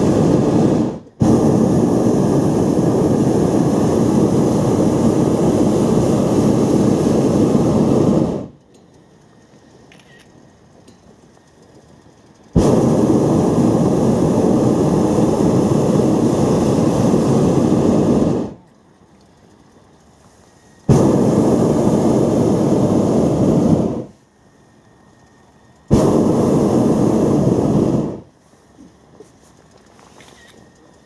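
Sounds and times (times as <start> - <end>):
propane burner blasts: 0.0 - 31.0.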